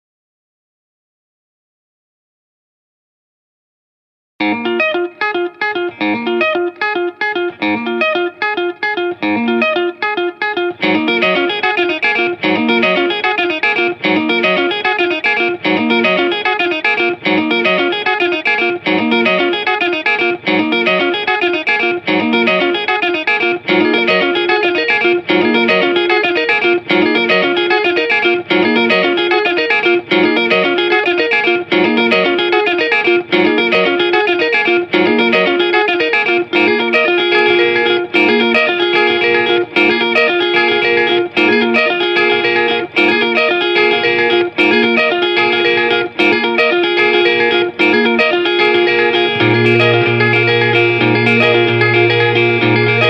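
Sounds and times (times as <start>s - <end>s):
electric guitar music with beat: 4.4s - 53.0s.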